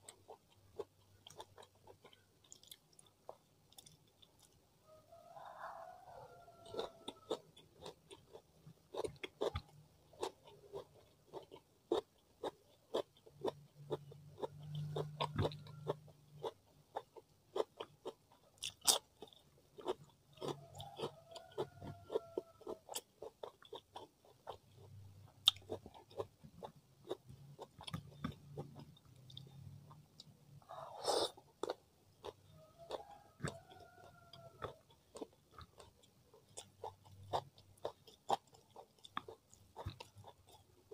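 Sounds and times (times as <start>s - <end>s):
person chewing and crunching: 0.0s - 4.6s, 6.4s - 40.9s.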